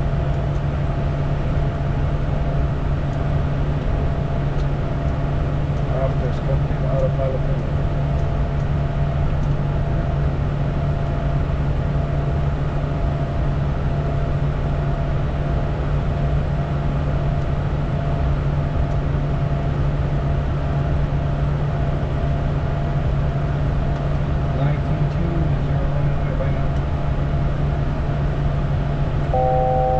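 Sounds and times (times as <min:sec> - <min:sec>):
low jet engine hum: 0:00.0 - 0:29.9.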